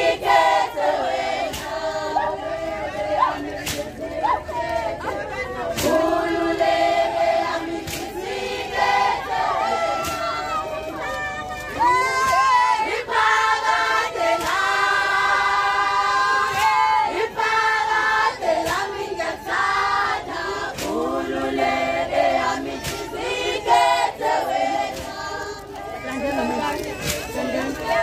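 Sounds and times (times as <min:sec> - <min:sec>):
women singing in chorus: 0:00.0 - 0:28.0.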